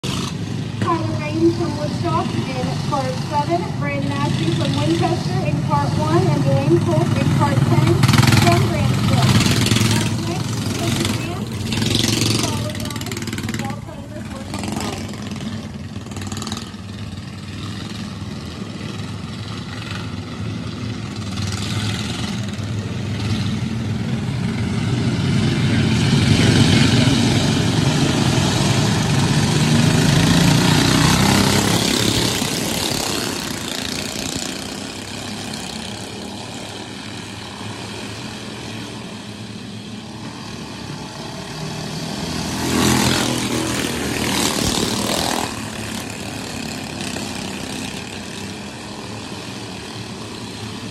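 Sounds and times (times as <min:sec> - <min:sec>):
race car engines: 0:00.0 - 0:50.9.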